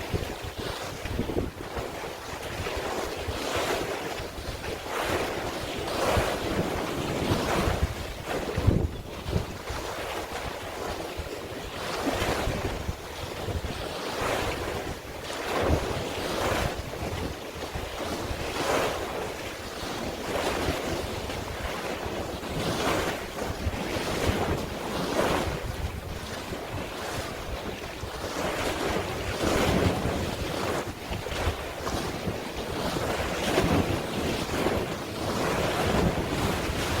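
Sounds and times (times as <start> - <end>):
sea water washing and splashing: 0.0 - 37.0
wind rumbling on microphone: 0.0 - 37.0.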